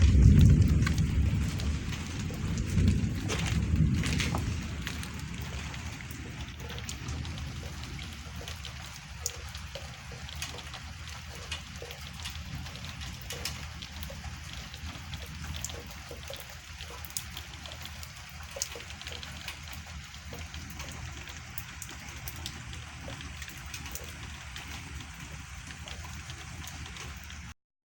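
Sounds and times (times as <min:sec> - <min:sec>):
rain hissing: 0:00.0 - 0:27.6
sharp drips and splashes: 0:00.0 - 0:27.6.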